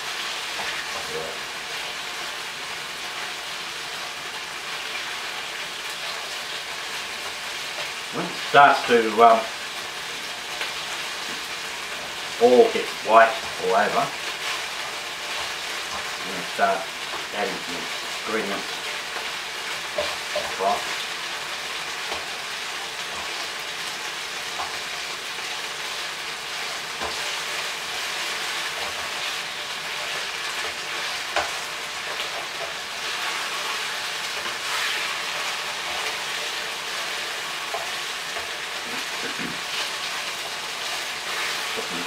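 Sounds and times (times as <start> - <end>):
chicken sizzling in a pan: 0.0 - 42.0.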